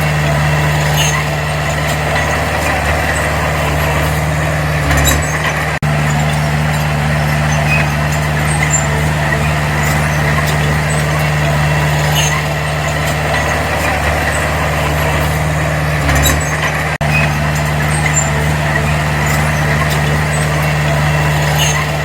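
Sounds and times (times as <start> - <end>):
heavy diesel engine running: 0.0 - 22.0
light metal clanks: 0.0 - 22.0.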